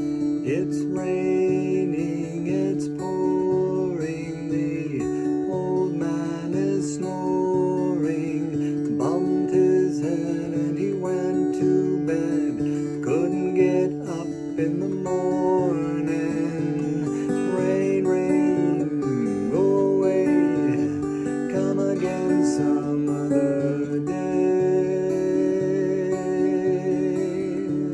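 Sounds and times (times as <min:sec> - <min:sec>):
acoustic guitar strumming: 0:00.0 - 0:27.9
wordless sliding melody: 0:05.5 - 0:27.9.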